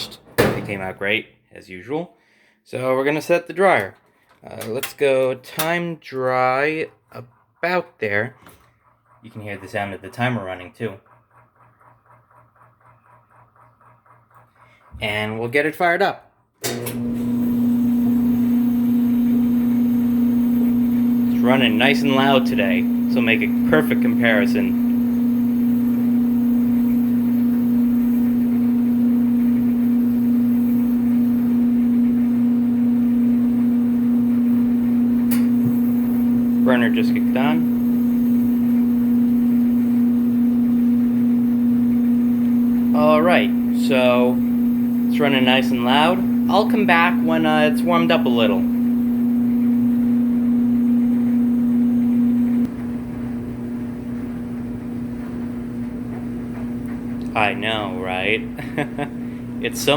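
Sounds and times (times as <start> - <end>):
clothes dryer motor humming: 0.0 - 1.2, 2.8 - 59.9.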